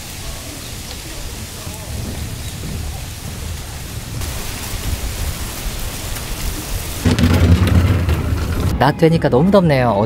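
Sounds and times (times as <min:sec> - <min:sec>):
wind rumble on microphone: 0:00.0 - 0:08.8
wind rustling tree leaves: 0:00.0 - 0:08.9.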